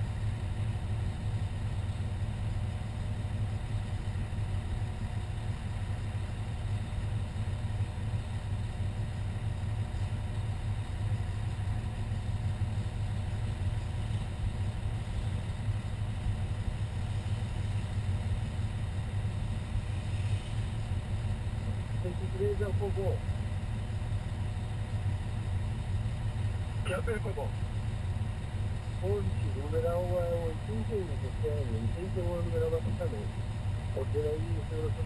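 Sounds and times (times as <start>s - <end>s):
fire engine engine running: 0.0s - 35.0s.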